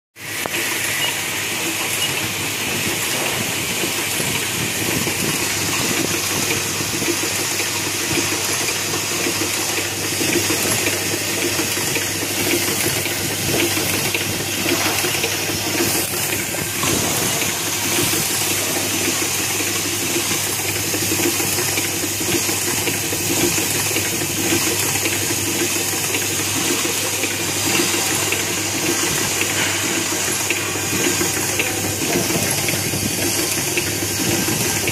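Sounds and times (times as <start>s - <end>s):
pneumatic machine stations: 0.2s - 34.9s.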